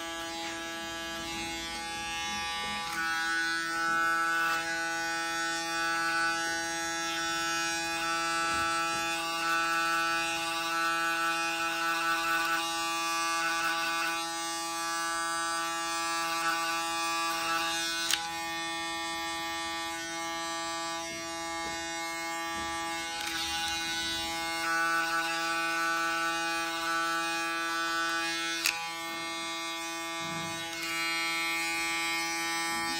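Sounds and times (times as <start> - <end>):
electric hair clipper buzzing: 0.0 - 32.9.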